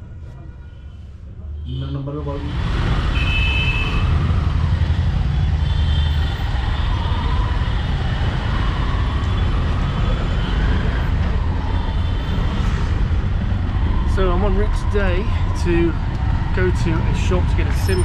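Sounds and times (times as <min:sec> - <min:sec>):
auto-rickshaw engine rumbling: 0:01.4 - 0:18.0.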